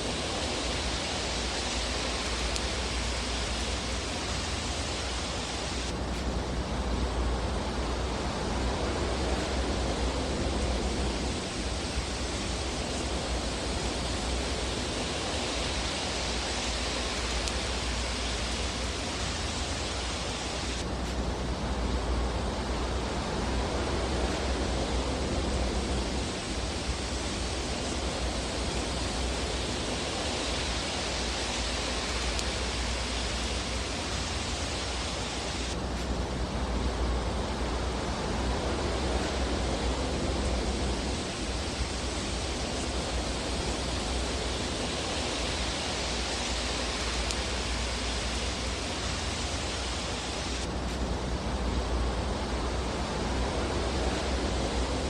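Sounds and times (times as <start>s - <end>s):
fireplace fire hissing: 0.0s - 55.0s.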